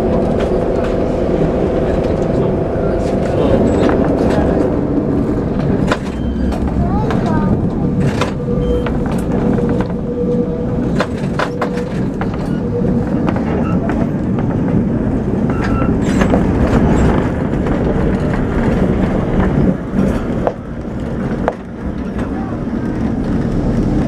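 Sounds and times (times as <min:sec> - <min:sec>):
track clicks and knocks: 0:00.0 - 0:24.0
tram wheels rumbling on rails: 0:00.0 - 0:24.0.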